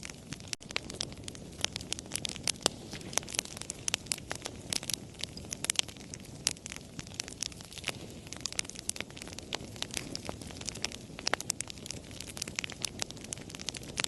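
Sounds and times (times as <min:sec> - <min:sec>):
campfire crackling and popping: 0:00.0 - 0:14.0
fire hissing: 0:00.0 - 0:14.0.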